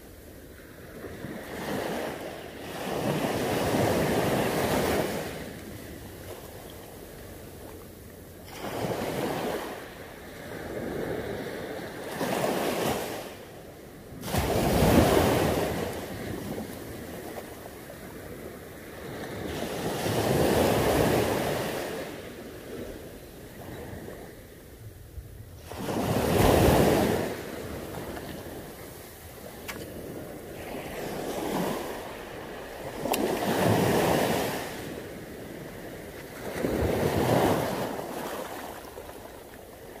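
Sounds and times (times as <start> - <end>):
sea waves breaking on beach: 0.0 - 24.7, 25.6 - 40.0.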